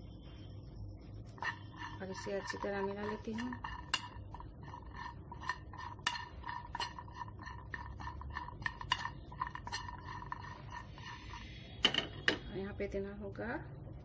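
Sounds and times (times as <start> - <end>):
metal spoon scraping pan: 1.3 - 12.6.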